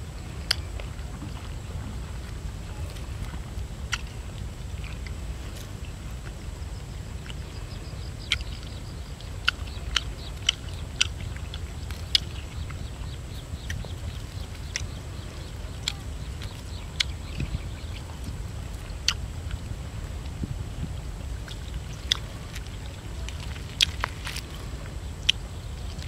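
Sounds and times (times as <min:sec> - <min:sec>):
low wind rumble on microphone: 0:00.0 - 0:26.0.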